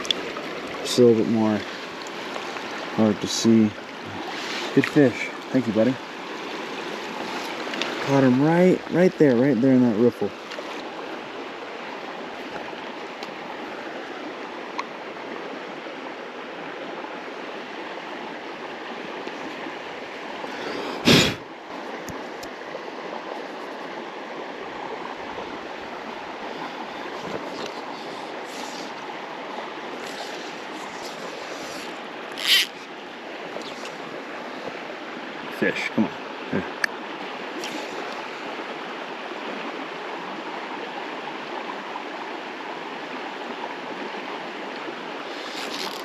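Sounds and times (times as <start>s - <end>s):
creek water running: 0.0s - 46.0s.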